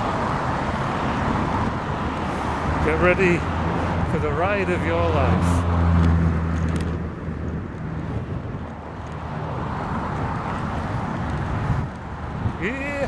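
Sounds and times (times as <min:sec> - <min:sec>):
rattling road vibration: 0:00.0 - 0:13.0
wind rush: 0:00.0 - 0:13.0.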